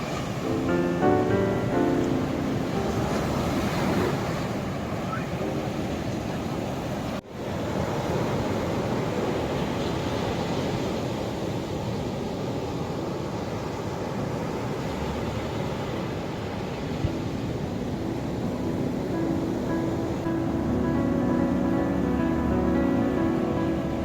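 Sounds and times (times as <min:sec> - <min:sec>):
ocean surf washing in: 0:00.0 - 0:24.0.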